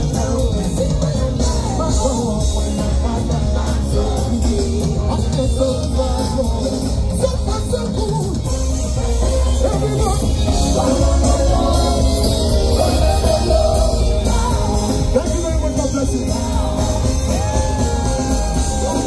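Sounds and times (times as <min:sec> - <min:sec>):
singing with instrumental backing: 0:00.0 - 0:19.0.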